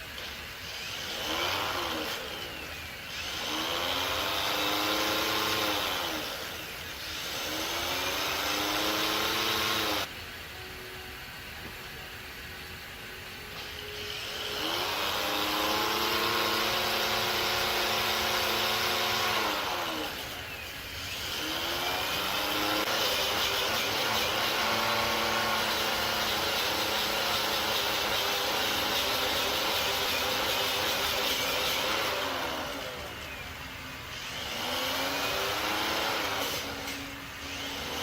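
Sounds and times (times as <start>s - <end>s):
electric power tool motor: 0.0s - 10.1s, 13.6s - 38.0s
hissing grinding noise: 0.0s - 38.0s.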